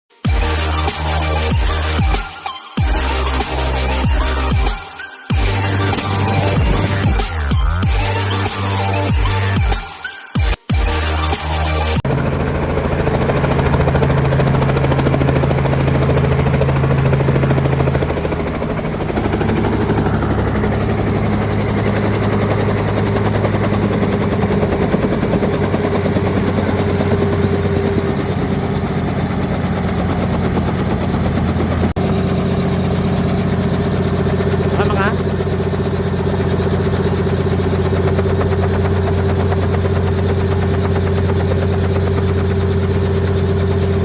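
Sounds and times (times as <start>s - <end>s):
helicopter rotor and engine: 0.3s - 10.2s, 11.9s - 44.0s.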